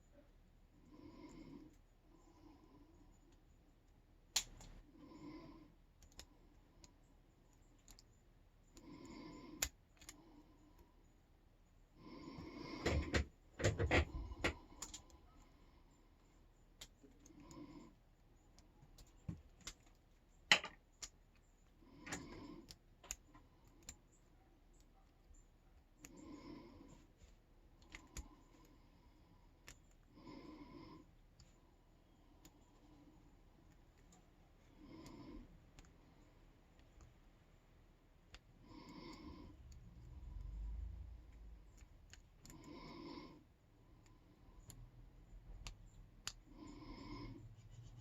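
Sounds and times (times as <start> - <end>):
soft breaths: 0.0 - 48.0.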